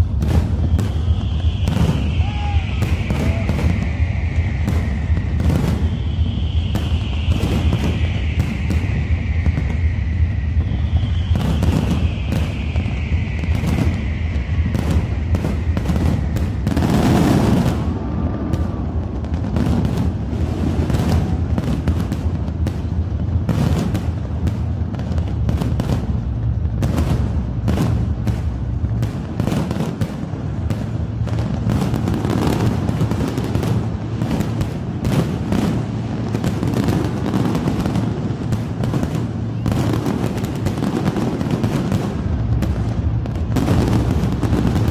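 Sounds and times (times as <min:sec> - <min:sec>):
fireworks bursts and crackles: 0:00.0 - 0:44.9.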